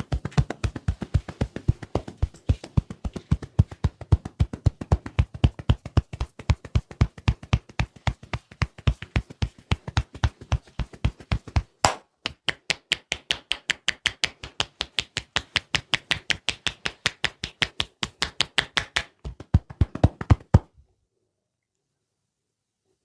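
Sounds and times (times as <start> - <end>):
rapid hand strikes on head: 0.0 - 20.7.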